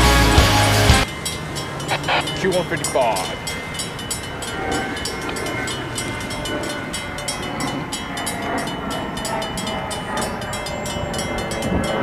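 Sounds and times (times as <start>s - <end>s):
freight train rumble: 0.0s - 12.0s
fast high ticks: 1.1s - 12.0s.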